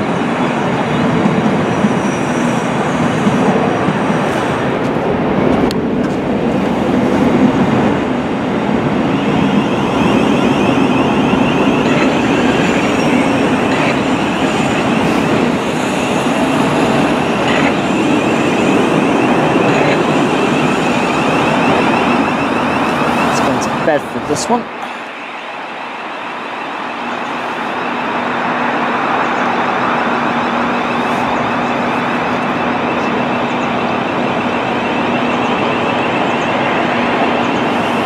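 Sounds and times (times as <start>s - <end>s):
high-pitched whine: 0.0s - 38.0s
train wheels on track: 0.0s - 38.0s.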